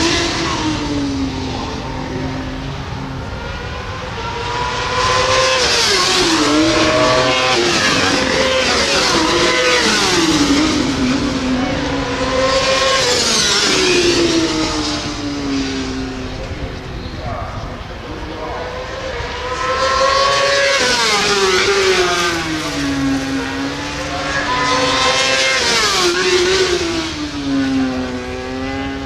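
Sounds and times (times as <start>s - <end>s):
racing motorcycles passing: 0.0s - 29.0s.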